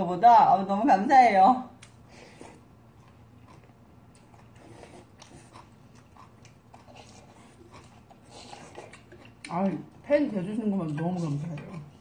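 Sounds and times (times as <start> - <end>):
people chewing: 1.8 - 12.0.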